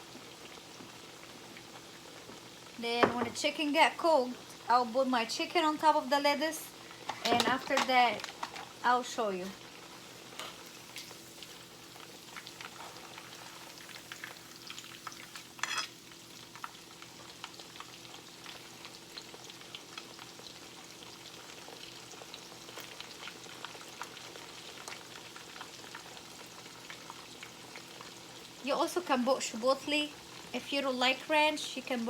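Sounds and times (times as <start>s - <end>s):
chicken frying in oil: 0.0s - 32.0s.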